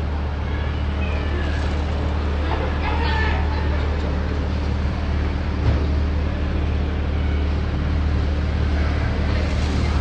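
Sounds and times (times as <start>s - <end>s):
low engine hum: 0.0s - 10.0s
traffic noise: 0.0s - 10.0s.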